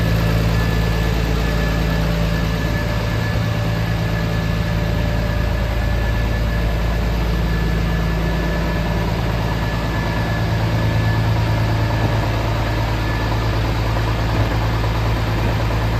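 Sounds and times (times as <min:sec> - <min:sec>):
diesel truck engine idling: 0:00.0 - 0:15.9.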